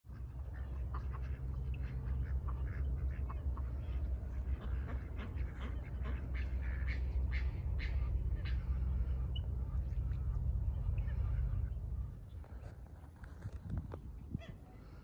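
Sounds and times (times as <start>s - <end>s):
ducks quacking: 0.1s - 12.8s
steady low rumble: 0.1s - 15.0s.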